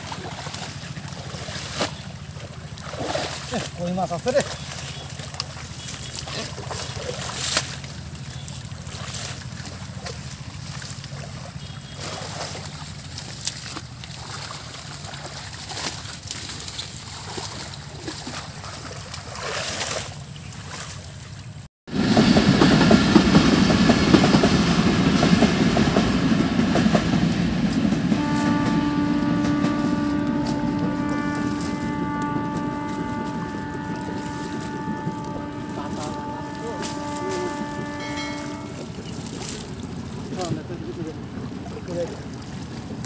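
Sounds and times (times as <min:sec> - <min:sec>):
train passing close by: 0:00.0 - 0:18.9, 0:21.4 - 0:43.0
pond water sloshing and splashing: 0:00.0 - 0:21.7, 0:26.7 - 0:43.0.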